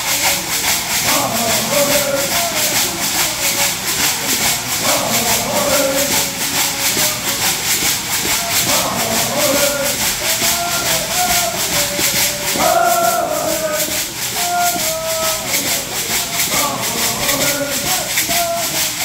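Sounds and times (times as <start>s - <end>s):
call and response singing: 0.0s - 19.0s.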